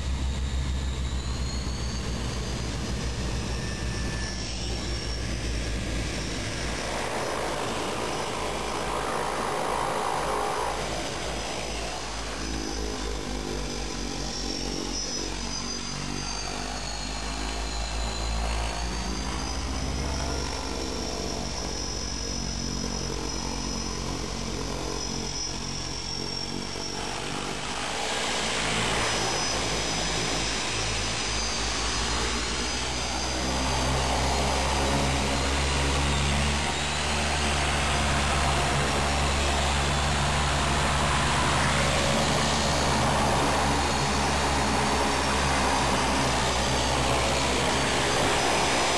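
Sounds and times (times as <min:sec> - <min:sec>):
propeller hum: 0:00.0 - 0:48.9
turbine whine: 0:00.0 - 0:48.9.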